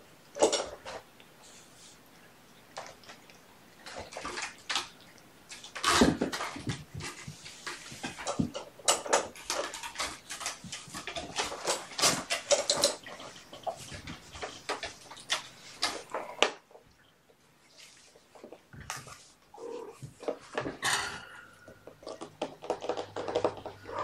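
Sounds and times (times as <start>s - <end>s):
kittens playing with toys: 0.3s - 2.0s, 2.7s - 17.0s, 17.6s - 24.0s
scratching and rustling: 2.7s - 24.0s.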